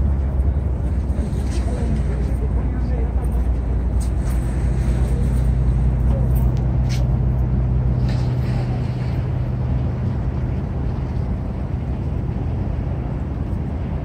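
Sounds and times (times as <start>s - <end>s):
boat engine drone: 0.0s - 14.0s
rushing water: 0.0s - 14.0s.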